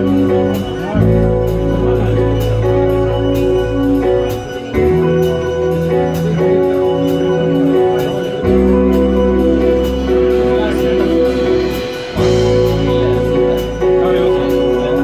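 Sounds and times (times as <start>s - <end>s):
electric bass: 0.0s - 15.0s.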